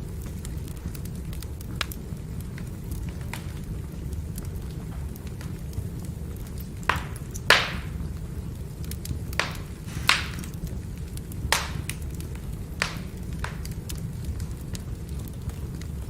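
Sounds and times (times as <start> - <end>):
firewood crackling: 0.0 - 16.0.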